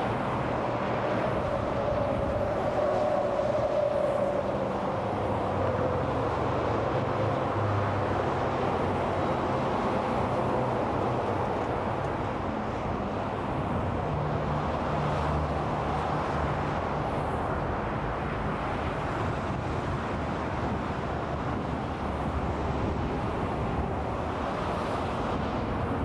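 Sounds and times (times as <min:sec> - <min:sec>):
freeway traffic tyre noise: 0:00.0 - 0:26.0
heavy vehicle engine hum: 0:00.0 - 0:26.0.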